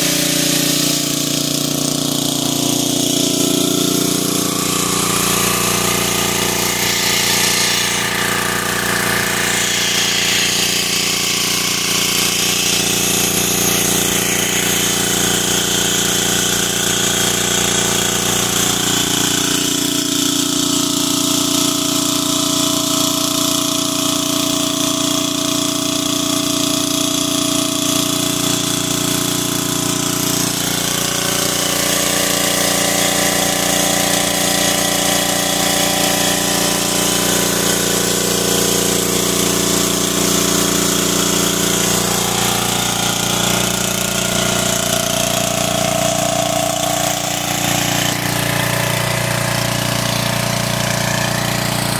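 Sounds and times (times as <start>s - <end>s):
generator engine running: 0.0s - 51.9s.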